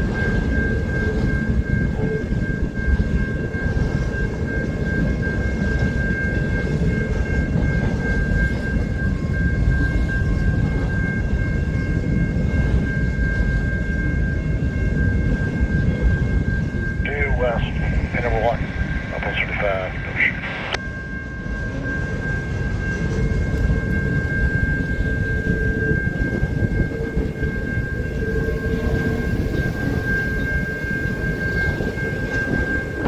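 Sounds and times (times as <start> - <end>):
freight train wheels rumbling: 0.0 - 33.0
high ringing tone: 0.0 - 33.0.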